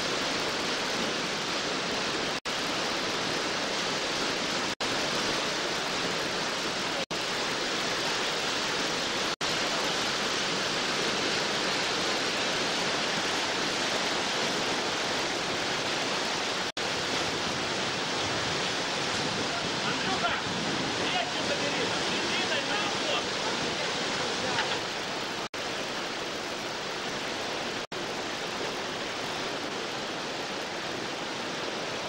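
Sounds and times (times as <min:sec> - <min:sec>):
whitewater rapid roaring: 0:00.0 - 0:32.0.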